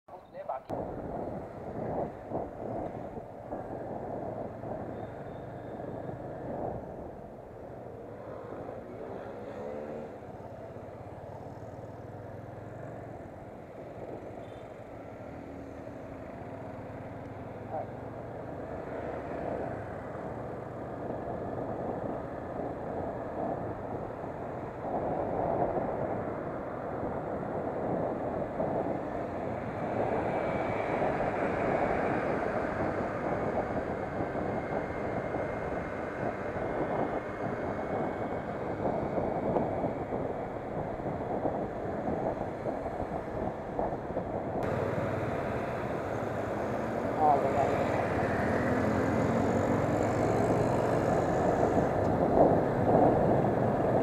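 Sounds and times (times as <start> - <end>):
wind rushing over microphone: 0.3 - 54.0
motorcycle running: 0.7 - 54.0.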